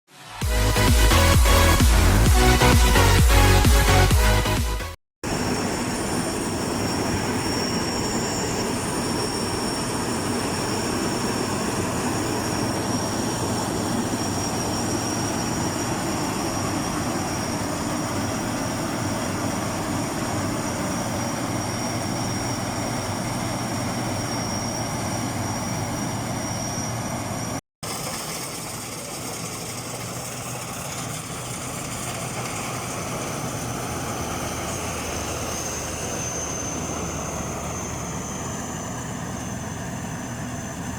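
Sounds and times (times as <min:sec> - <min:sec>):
combine harvester running: 0:05.2 - 0:40.9
high steady machine whine: 0:05.2 - 0:40.9.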